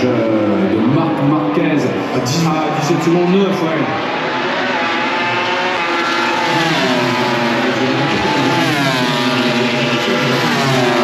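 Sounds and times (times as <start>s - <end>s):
racing motorcycle engines screaming: 0.0s - 11.0s.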